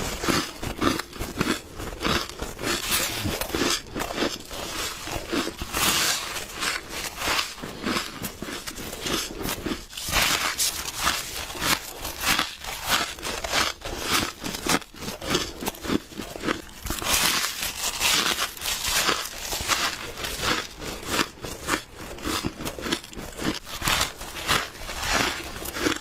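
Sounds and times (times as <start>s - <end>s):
person crunching ice: 0.0s - 26.0s.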